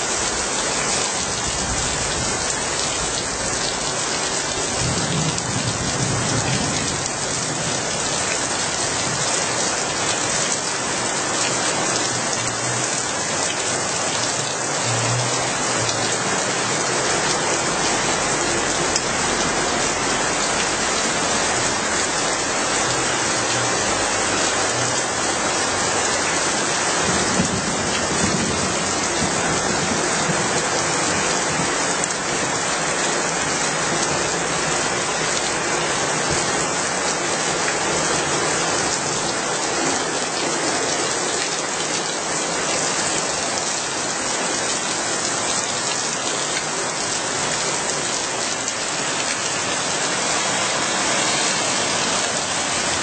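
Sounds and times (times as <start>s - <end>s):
steady rain on street: 0.0s - 53.0s.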